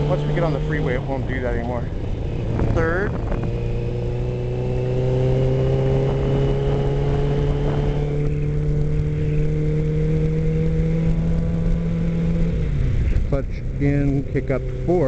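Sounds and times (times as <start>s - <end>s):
wind rush on microphone: 0.0s - 14.5s
motorcycle engine accelerating: 0.0s - 15.0s.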